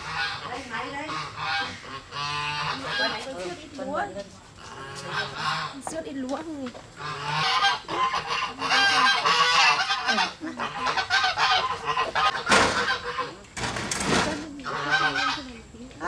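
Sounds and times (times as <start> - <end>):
fowl honking: 0.0 - 3.4, 4.6 - 5.9, 7.0 - 15.6.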